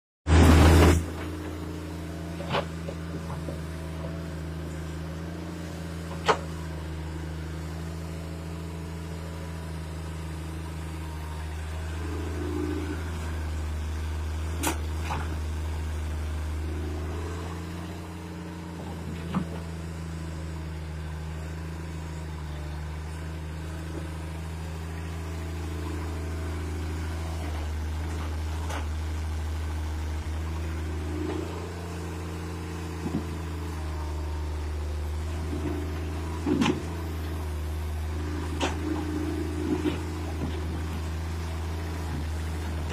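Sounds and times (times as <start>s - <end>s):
excavator diesel engine running: 0.3s - 42.9s.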